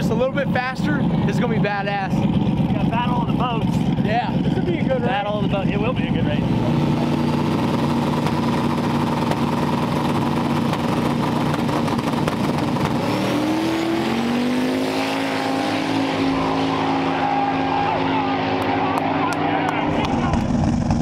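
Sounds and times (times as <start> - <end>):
drag racing engines accelerating: 0.0 - 21.0.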